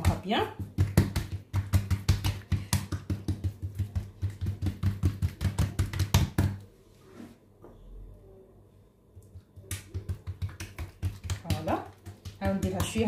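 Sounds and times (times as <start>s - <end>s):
hands patting dough on countertop: 0.0s - 6.7s, 9.2s - 13.0s.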